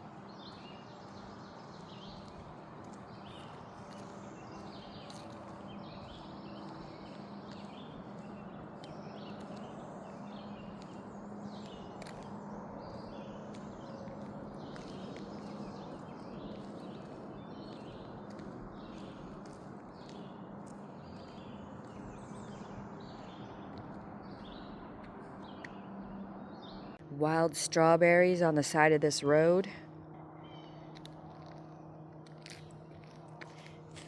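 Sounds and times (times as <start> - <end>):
footsteps on road: 0.0 - 26.8, 29.4 - 34.0.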